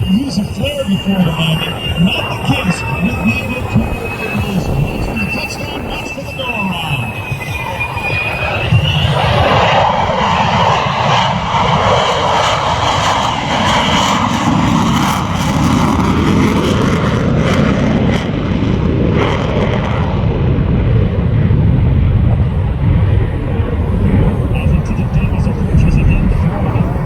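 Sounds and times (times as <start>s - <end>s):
jet engine roaring: 0.0s - 27.0s.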